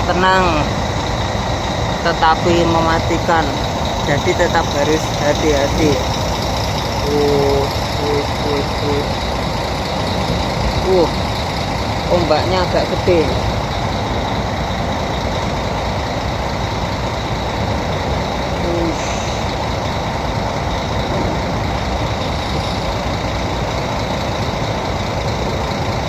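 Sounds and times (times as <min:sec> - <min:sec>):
ship engine rumble: 0:00.0 - 0:26.0
wind: 0:00.0 - 0:26.0.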